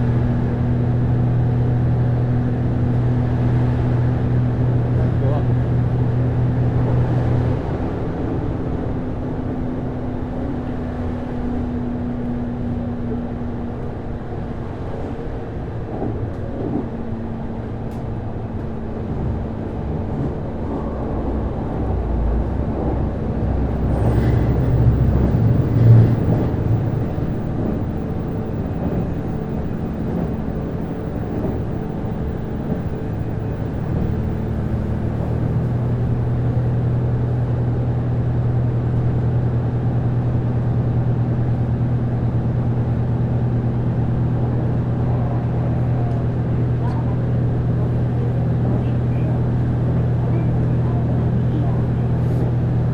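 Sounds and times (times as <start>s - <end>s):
rail and body noise: 0.0s - 52.9s
railcar engine low hum: 0.0s - 52.9s.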